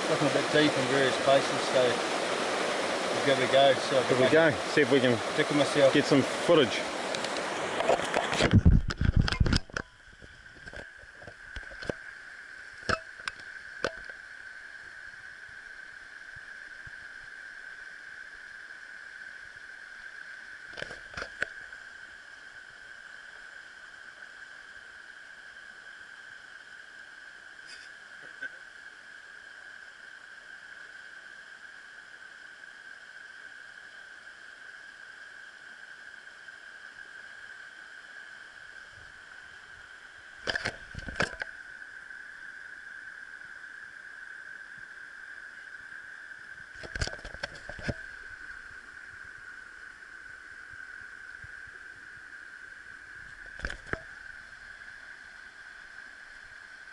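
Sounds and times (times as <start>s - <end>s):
stream running over stones: 0.0s - 56.9s.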